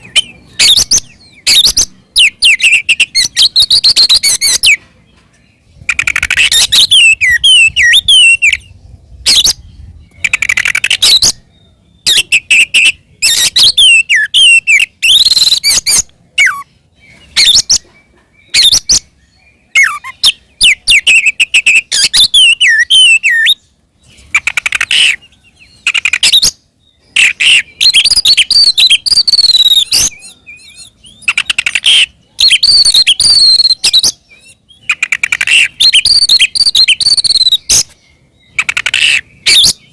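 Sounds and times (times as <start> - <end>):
bird singing whistles and trills: 0.0 - 4.8, 5.8 - 39.9.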